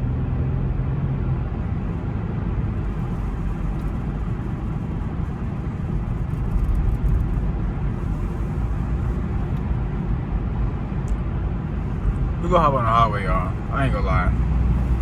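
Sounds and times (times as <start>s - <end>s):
car interior road noise: 0.0s - 15.0s.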